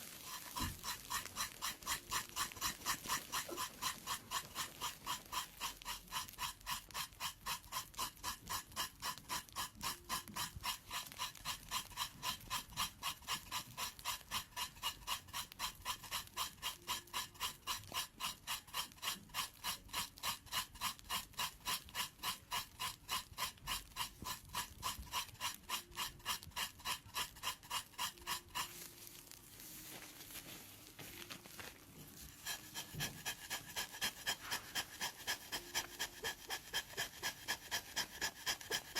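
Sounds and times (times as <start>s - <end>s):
blade scraping skin: 0.0s - 30.4s, 31.2s - 38.9s.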